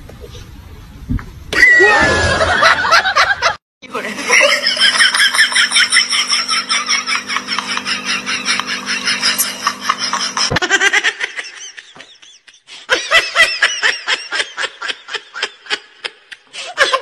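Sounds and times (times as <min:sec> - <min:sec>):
person laughing in rapid bursts: 0:01.6 - 0:17.0.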